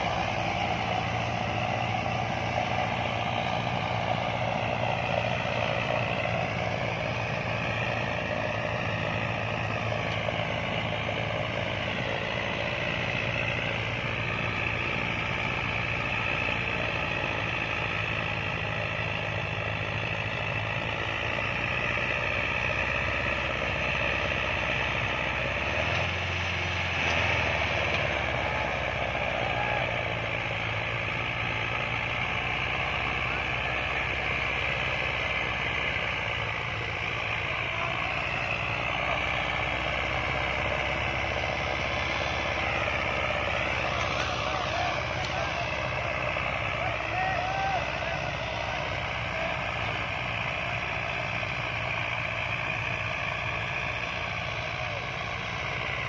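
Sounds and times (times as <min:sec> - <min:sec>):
higher whine: 0:00.0 - 0:19.2, 0:26.0 - 0:56.0
tractor diesel engine running: 0:00.0 - 0:56.0.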